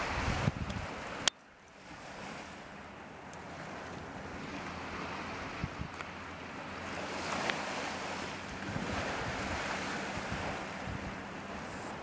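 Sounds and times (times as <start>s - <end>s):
wind buffeting microphone: 0.0s - 1.3s, 3.4s - 12.0s
waves washing on shore: 0.0s - 12.0s.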